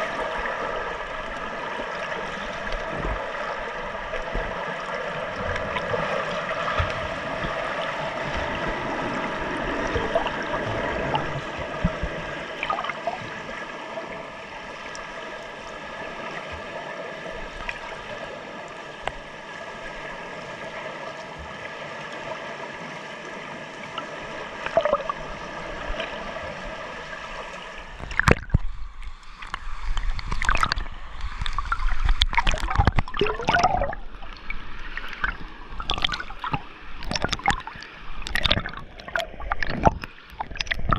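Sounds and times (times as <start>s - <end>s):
muffled underwater hum: 0.0s - 40.9s
water splashing and sloshing: 0.0s - 40.9s.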